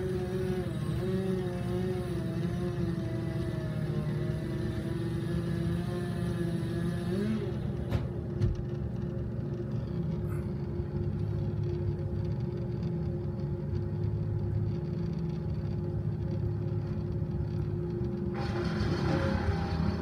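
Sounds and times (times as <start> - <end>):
engine at fast idle: 0.0 - 20.0.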